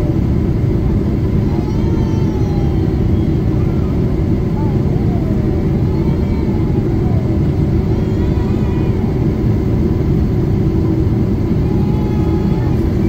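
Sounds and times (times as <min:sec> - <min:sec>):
jet engine rumble in cabin: 0:00.0 - 0:13.0.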